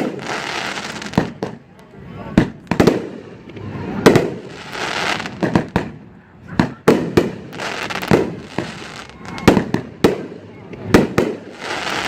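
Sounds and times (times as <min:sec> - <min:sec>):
firework crackling hiss: 0:00.0 - 0:01.6, 0:02.6 - 0:05.9, 0:07.0 - 0:12.0
firework bangs: 0:00.0 - 0:01.7, 0:02.3 - 0:12.0.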